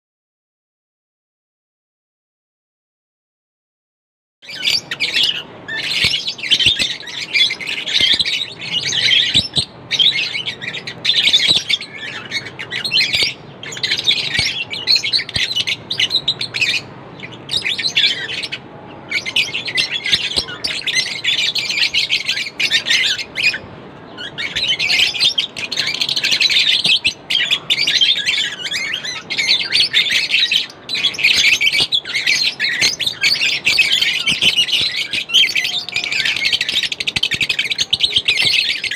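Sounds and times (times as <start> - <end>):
lovebirds chirping: 4.4 - 38.9.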